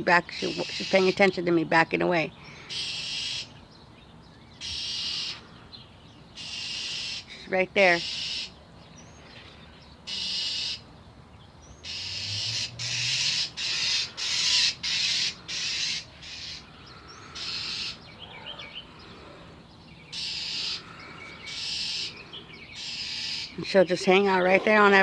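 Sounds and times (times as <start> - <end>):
bird harsh scolding calls: 0.0 - 3.7, 4.5 - 11.0, 11.6 - 25.0.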